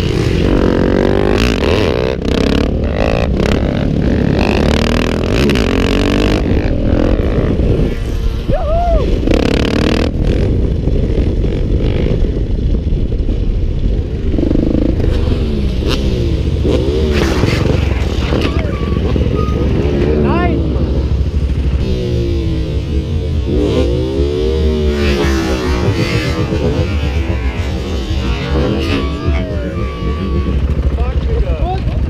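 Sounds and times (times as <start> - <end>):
heavy rushing noise: 0.0 - 32.0
motorcycle engine revving: 0.0 - 32.0.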